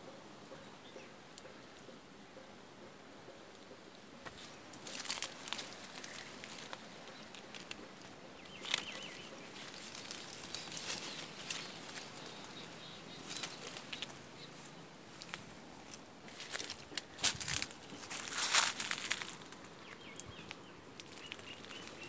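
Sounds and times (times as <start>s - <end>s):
leaves and twigs rustling: 4.2s - 22.0s.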